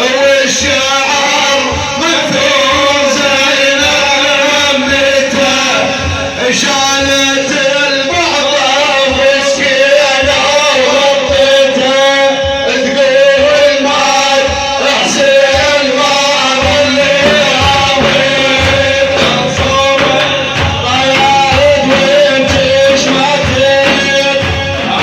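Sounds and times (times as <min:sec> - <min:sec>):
men singing devotional song: 0:00.0 - 0:25.0
steady drum beats: 0:00.0 - 0:25.0.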